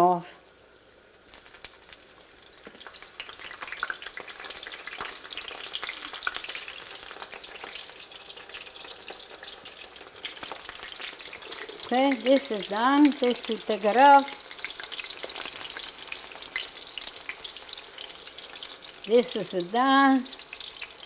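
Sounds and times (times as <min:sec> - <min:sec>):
eggplant sizzling in frying pan: 0:00.0 - 0:21.0.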